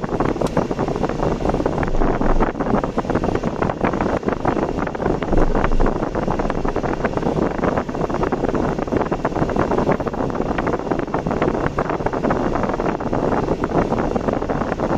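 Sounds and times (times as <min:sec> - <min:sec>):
vehicle travelling on road: 0:00.0 - 0:14.9
wind buffeting microphone: 0:00.0 - 0:14.9.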